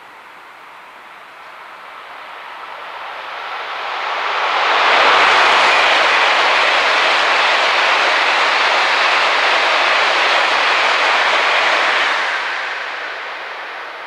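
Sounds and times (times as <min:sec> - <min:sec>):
bullet train rushing past: 0:01.4 - 0:14.0.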